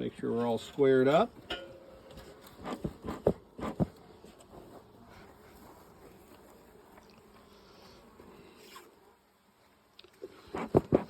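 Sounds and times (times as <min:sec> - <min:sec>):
honeybees buzzing: 0:01.8 - 0:11.0.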